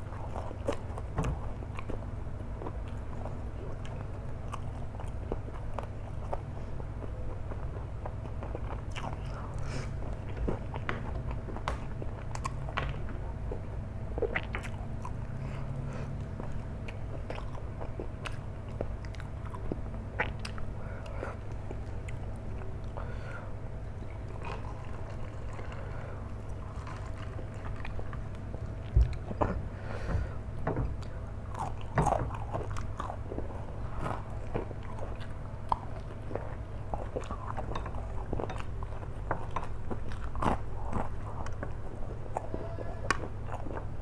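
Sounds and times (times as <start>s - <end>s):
chewing noodles: 0.0s - 23.1s, 23.9s - 29.7s, 31.0s - 44.0s
steady low hum: 0.0s - 44.0s.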